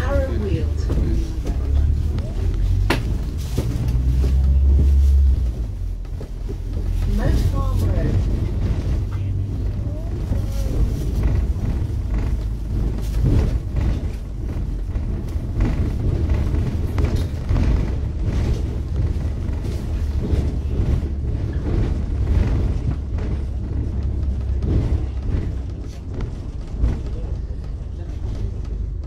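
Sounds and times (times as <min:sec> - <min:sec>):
bus engine and road rumble: 0:00.0 - 0:29.0
thumps and rattles: 0:00.0 - 0:29.0.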